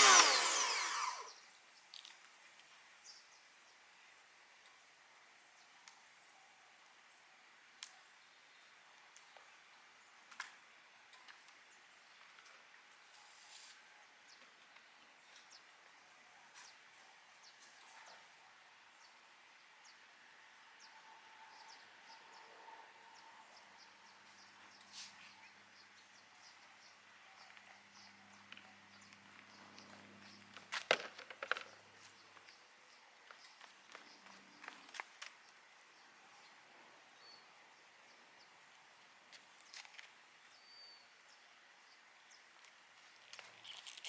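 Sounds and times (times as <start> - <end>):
faint outdoor ambience: 0.0 - 44.0.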